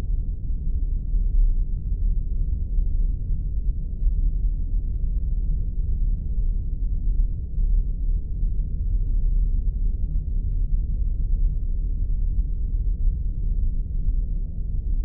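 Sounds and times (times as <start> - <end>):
deep spaceship rumble: 0.0 - 15.0.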